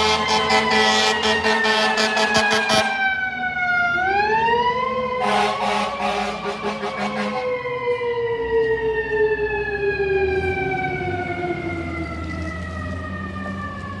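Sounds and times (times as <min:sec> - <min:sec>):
fire engine siren wail: 0:00.0 - 0:14.0
truck rumble: 0:00.0 - 0:14.0.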